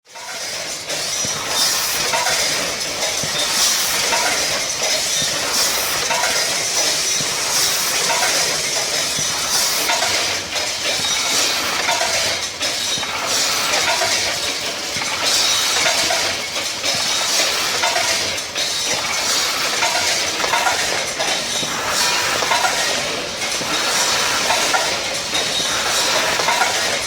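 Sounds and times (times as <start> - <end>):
packaging machine clattering: 0.1 - 27.0.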